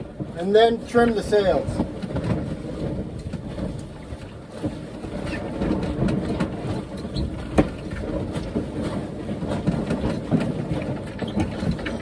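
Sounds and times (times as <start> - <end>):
rushing wind and water: 0.0 - 12.0.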